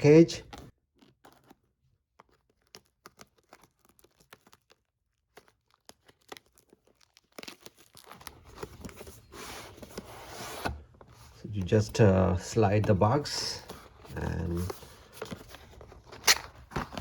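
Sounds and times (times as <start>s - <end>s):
cardboard box clicks and crackles: 0.5s - 11.4s, 13.6s - 17.0s
cardboard tearing and scraping: 0.5s - 17.0s.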